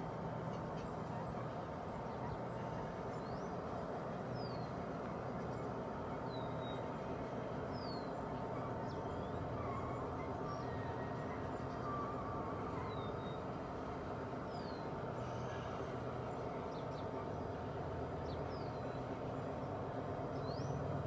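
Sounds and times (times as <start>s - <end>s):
faint constant tone: 0.0s - 21.0s
model train rolling on track: 0.0s - 21.0s.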